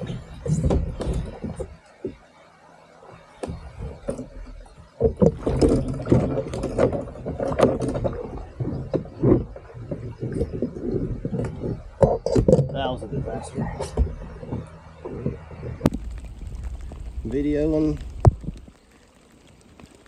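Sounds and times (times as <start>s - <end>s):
knocks and bumps on a kayak: 0.0s - 2.3s, 3.4s - 19.0s.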